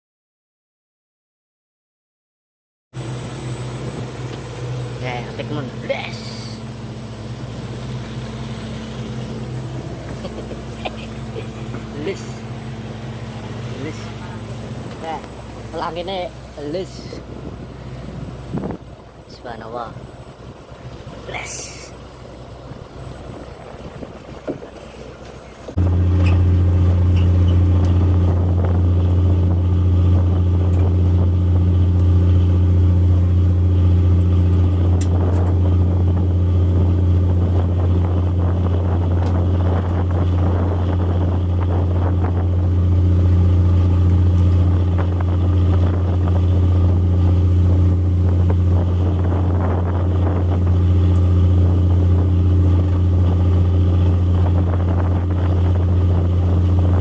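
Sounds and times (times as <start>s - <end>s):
boat diesel machinery humming: 3.0s - 57.0s.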